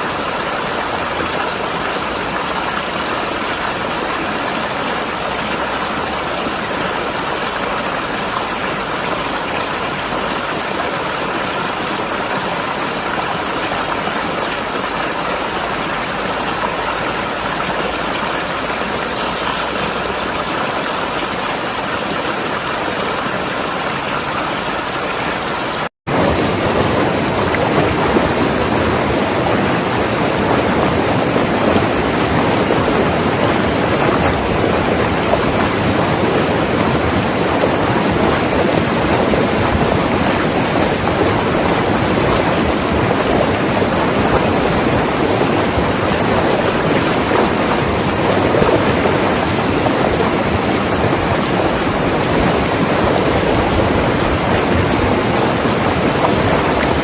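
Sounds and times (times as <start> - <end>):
river gurgling over rocks: 0.0 - 57.0.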